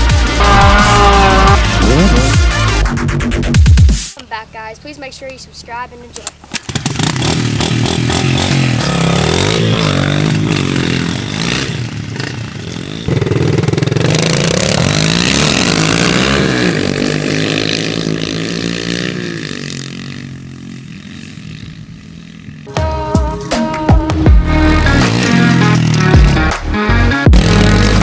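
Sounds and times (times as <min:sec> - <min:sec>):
motorbike engine revving: 0:00.0 - 0:03.8, 0:06.4 - 0:23.1, 0:23.7 - 0:28.0.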